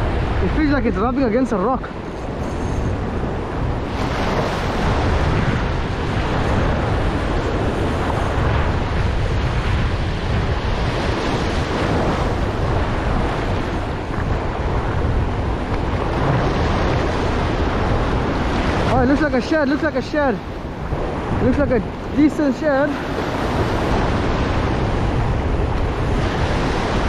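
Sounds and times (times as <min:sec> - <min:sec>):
ocean surf breaking: 0:00.0 - 0:27.0
wind rumbling on microphone: 0:00.0 - 0:27.0.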